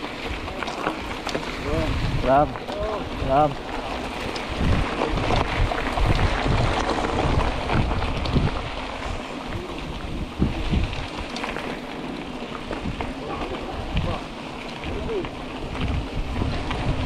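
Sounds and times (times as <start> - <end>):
bike rattles and ticks: 0.0 - 17.0
tyre and trail noise: 0.0 - 17.0
wind buffeting microphone: 0.0 - 17.0.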